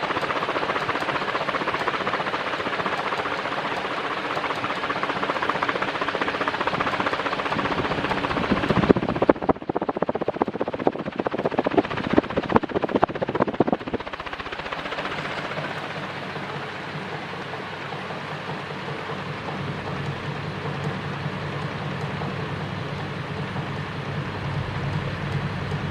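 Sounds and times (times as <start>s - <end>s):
ceiling fan air rushing: 0.0s - 25.9s
steady fan hum: 0.0s - 25.9s.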